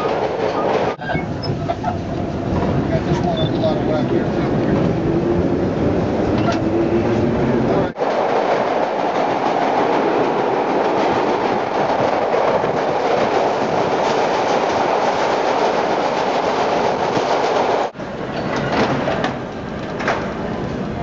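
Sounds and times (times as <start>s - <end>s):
subway train rumbling: 0.0s - 21.0s
wheels clacking over rail joints: 0.0s - 21.0s.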